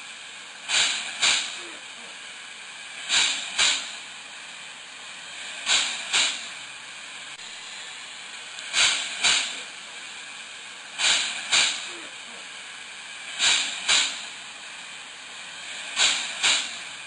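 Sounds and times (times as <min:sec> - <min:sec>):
steam hissing bursts: 0:00.0 - 0:17.0.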